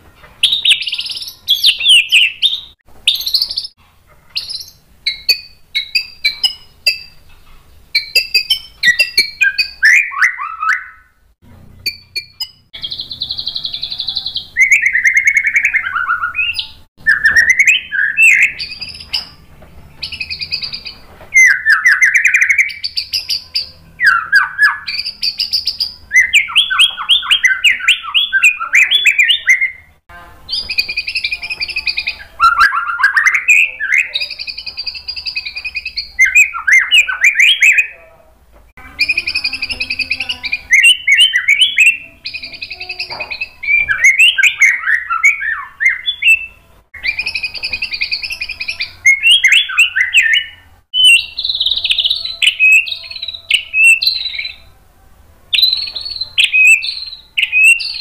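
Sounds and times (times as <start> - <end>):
songbird singing whistles and warbles: 0.2 - 7.3, 7.9 - 38.1, 38.8 - 54.8, 55.5 - 58.0.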